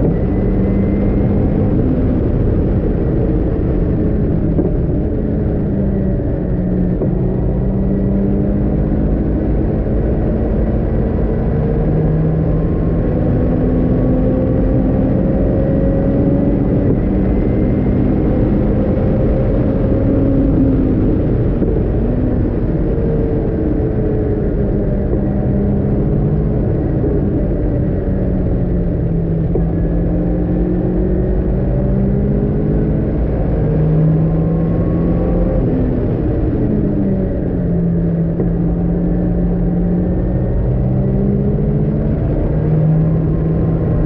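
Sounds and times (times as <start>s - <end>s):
racing car engine revving: 0.0s - 44.0s
wind rush: 0.0s - 44.0s.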